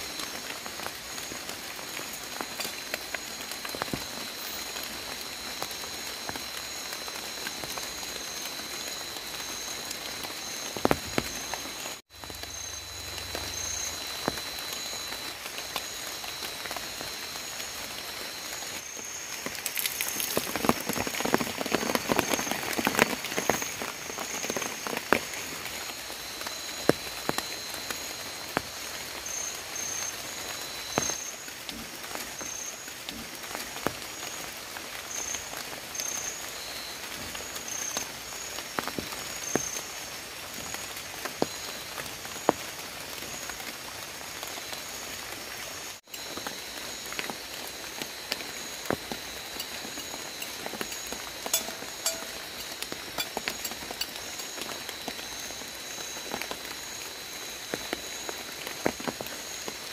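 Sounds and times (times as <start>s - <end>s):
light rain on tarp and leaves: 0.0s - 59.9s.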